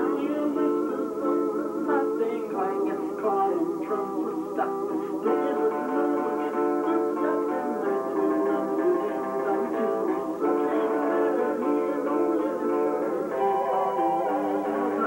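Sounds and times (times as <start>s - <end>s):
plucked string instruments playing: 0.0s - 15.0s.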